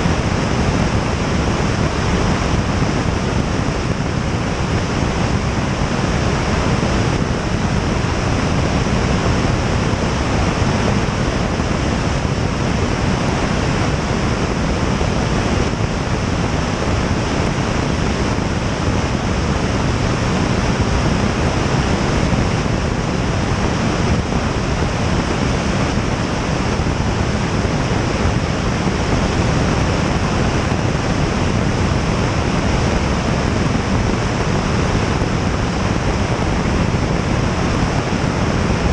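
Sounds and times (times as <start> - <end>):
airflow rushing over aircraft: 0.0 - 38.9.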